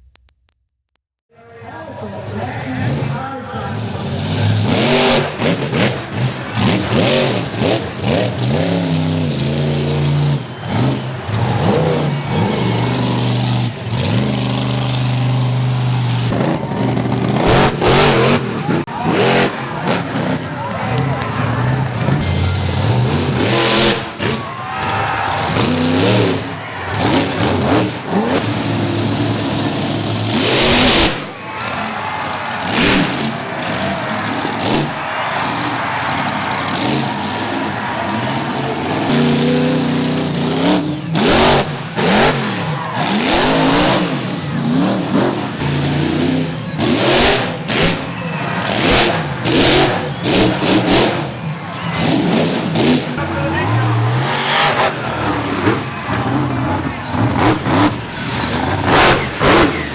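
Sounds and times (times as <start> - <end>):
truck engine revving: 2.0 - 59.9.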